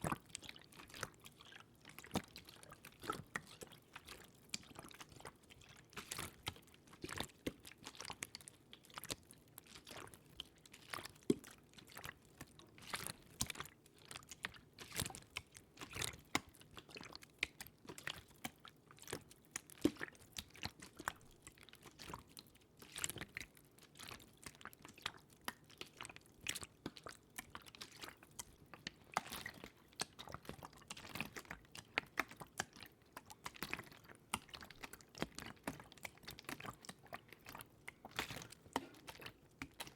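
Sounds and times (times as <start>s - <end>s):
wet water clicks and crackles: 0.0s - 39.9s.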